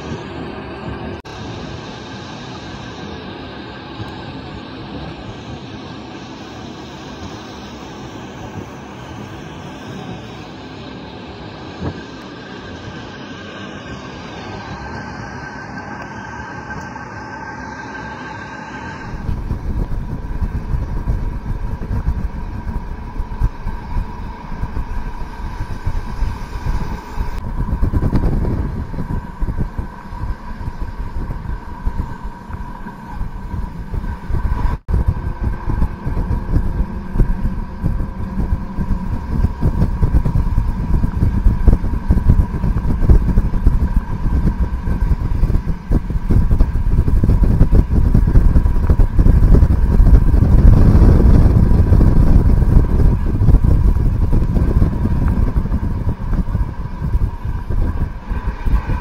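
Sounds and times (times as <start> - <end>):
railcar engine whine: 0.0 - 59.0
wheels rumbling on track: 0.0 - 59.0.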